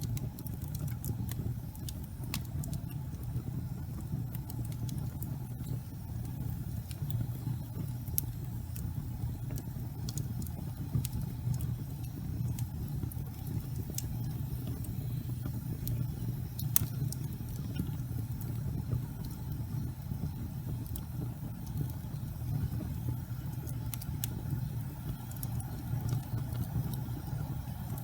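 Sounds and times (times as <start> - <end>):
fire crackling and popping: 0.0 - 28.0
fire rumbling: 0.0 - 28.0.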